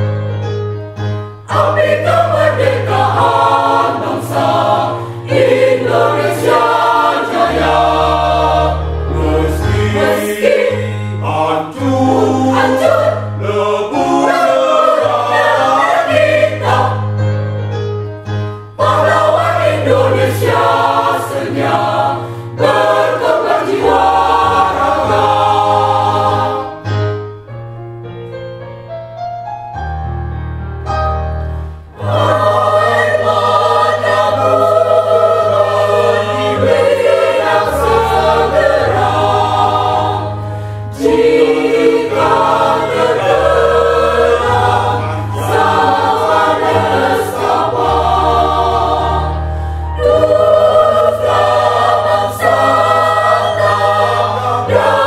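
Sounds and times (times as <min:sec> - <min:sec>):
mixed choir singing: 0:01.4 - 0:17.4, 0:18.7 - 0:27.1, 0:31.9 - 0:55.0.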